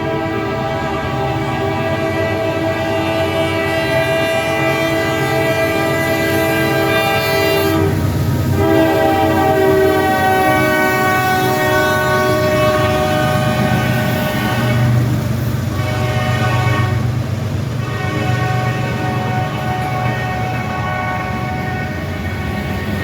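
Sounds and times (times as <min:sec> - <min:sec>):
locomotive air horn: 0:00.0 - 0:23.0
passing train rumble: 0:00.0 - 0:23.0.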